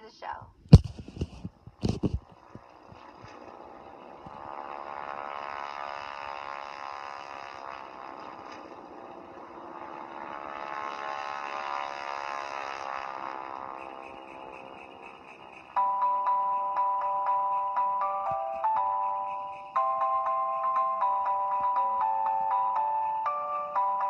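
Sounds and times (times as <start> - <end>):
cartoon propeller plane drone: 0.8 - 24.0.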